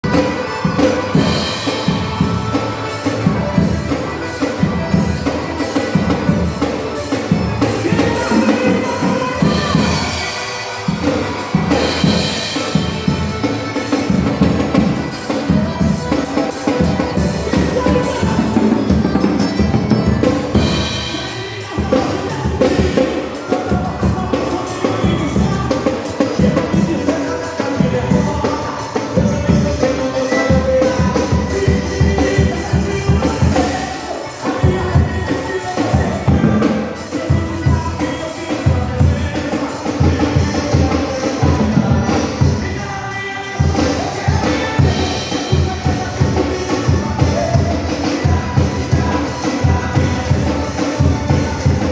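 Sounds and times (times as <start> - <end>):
band playing worship song: 0.0 - 51.9.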